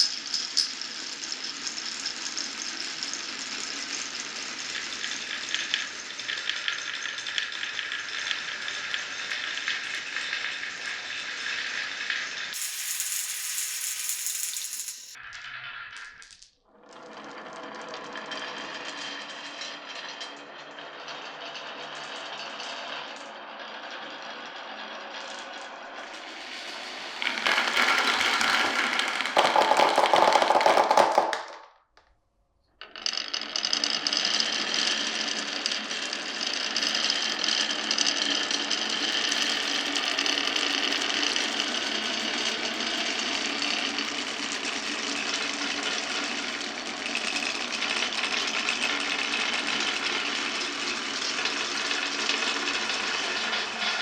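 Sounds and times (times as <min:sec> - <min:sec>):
marbles rolling along tracks: 0:00.0 - 0:31.8, 0:32.8 - 0:54.0.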